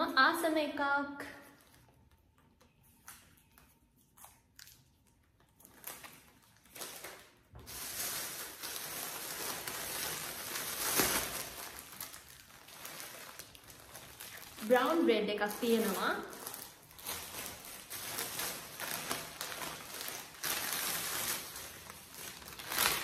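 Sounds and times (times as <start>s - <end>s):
plastic bags rustling: 1.3s - 23.0s.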